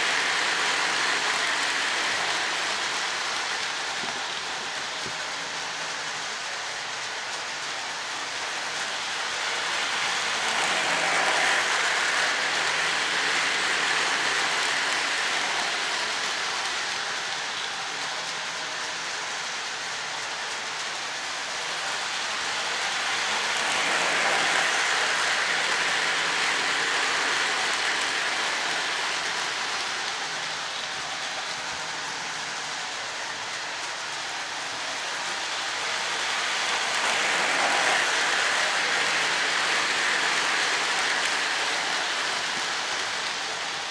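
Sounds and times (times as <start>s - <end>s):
model train whirring rumble: 0.0s - 43.9s.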